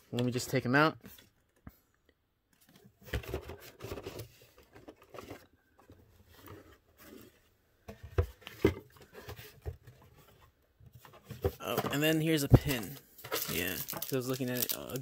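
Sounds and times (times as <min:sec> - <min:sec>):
cardboard scraping and rustling: 0:02.7 - 0:15.0.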